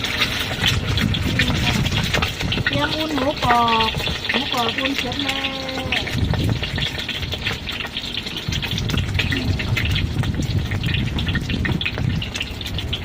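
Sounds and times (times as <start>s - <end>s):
oil sizzling and crackling in wok: 0.0s - 13.0s.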